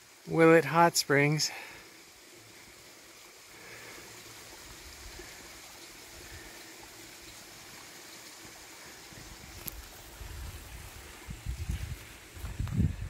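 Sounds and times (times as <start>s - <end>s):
water flowing over rocks: 0.0s - 13.0s.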